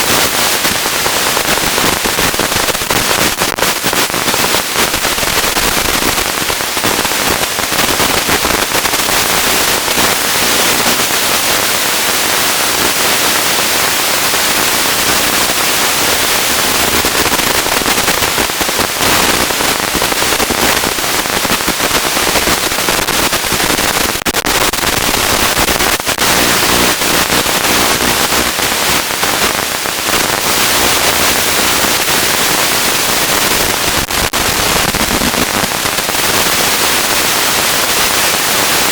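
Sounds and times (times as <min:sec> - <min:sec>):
crackling static hiss: 0:00.0 - 0:38.9.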